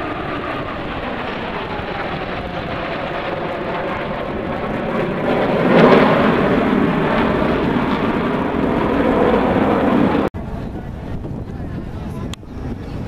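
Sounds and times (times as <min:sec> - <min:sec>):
aircraft engine flyby: 0:00.0 - 0:13.0.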